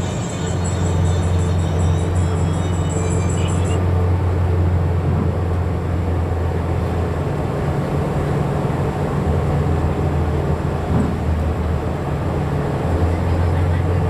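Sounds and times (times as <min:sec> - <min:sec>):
road noise: 0:00.0 - 0:14.0
vehicle engine drone: 0:00.0 - 0:14.0.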